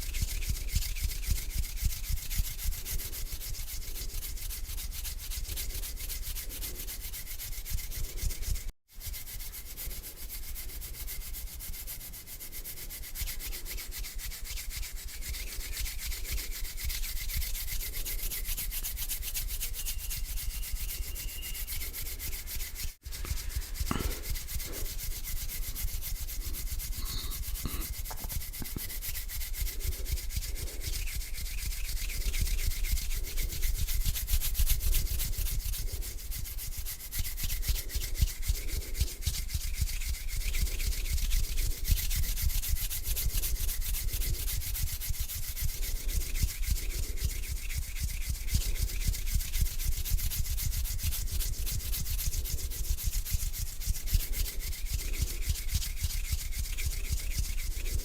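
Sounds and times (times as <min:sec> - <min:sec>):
hands rubbing together: 0:00.0 - 0:58.0.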